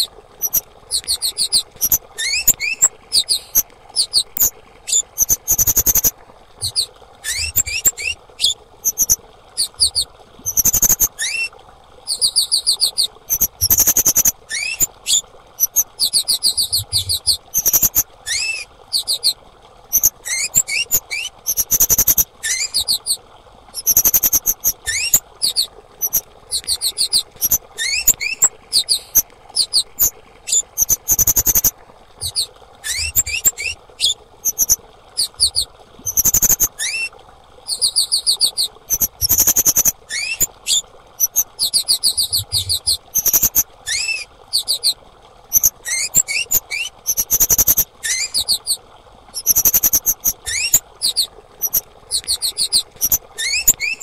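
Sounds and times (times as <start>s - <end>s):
bird chirping and trilling: 0.0s - 11.5s, 12.1s - 23.2s, 23.8s - 37.1s, 37.7s - 48.8s, 49.4s - 54.0s.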